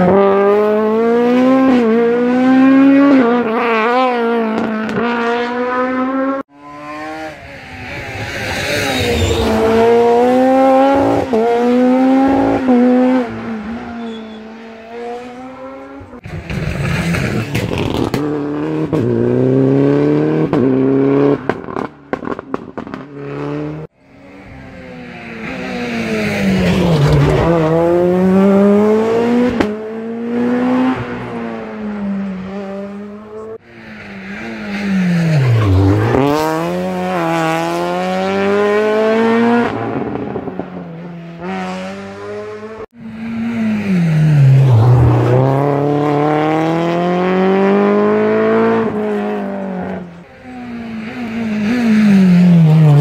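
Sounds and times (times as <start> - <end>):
rally car engines accelerating: 0.0 - 53.0.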